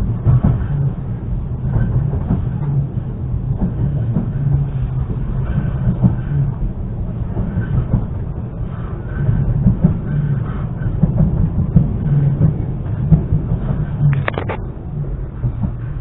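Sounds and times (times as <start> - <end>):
train low rumble: 0.0 - 16.0
wheels clicking on rails: 0.0 - 16.0.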